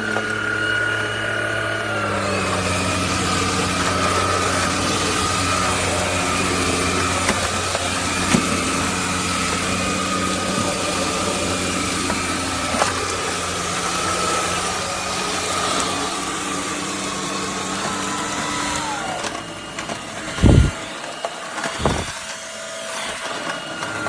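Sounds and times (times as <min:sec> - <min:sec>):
vacuum cleaner motor humming: 0:00.0 - 0:24.0.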